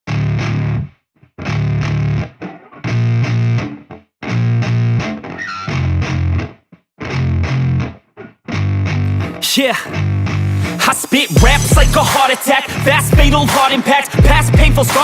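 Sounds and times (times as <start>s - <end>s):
distorted electric guitar riff: 0.1s - 15.0s.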